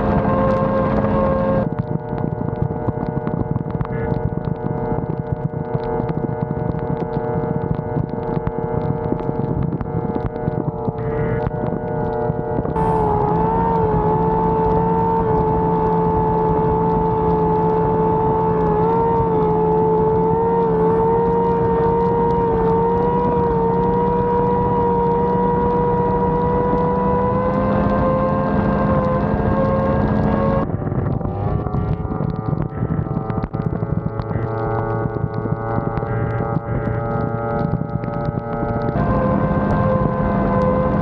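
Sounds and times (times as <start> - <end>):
race boat engine at high revs: 0.0 - 41.0.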